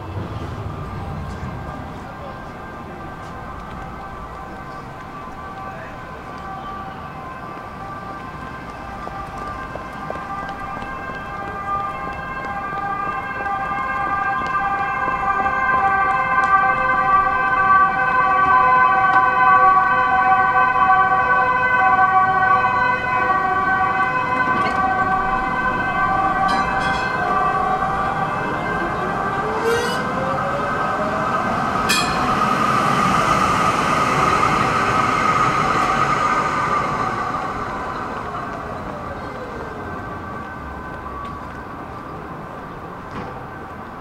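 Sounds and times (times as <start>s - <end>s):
tram high-pitched squeal: 0.0s - 44.0s
tram motors whining: 0.0s - 44.0s.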